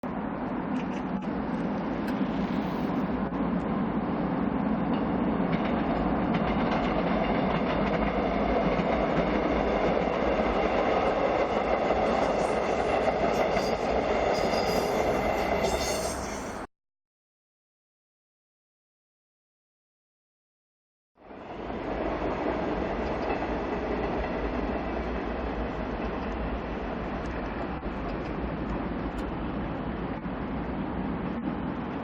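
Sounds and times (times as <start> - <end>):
train wheels rumbling on rails: 0.0 - 16.7, 21.2 - 32.0.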